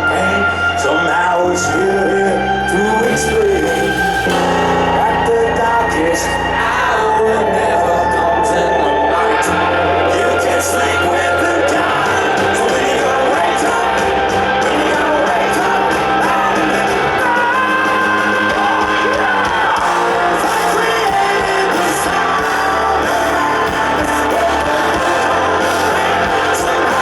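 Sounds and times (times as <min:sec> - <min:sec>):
person singing: 0:00.0 - 0:27.0
rock band playing: 0:01.6 - 0:27.0.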